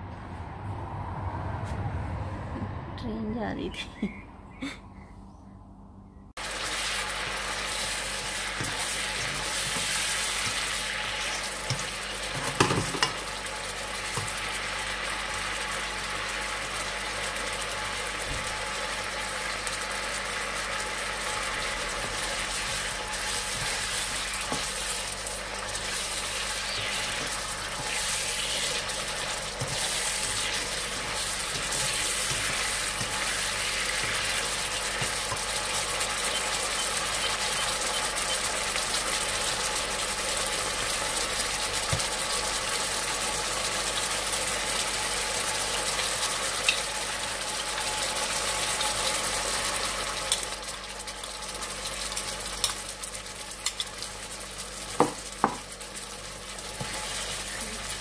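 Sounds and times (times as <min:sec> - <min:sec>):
chicken sizzling in a wok: 0:06.4 - 0:58.0.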